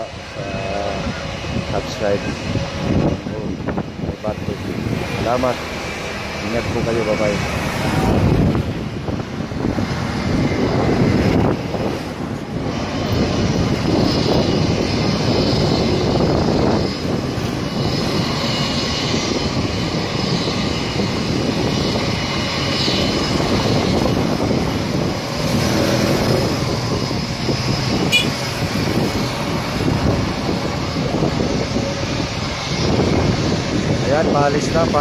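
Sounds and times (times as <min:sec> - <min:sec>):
jet engine whine: 0:00.0 - 0:35.0
jet engines rushing: 0:00.0 - 0:35.0.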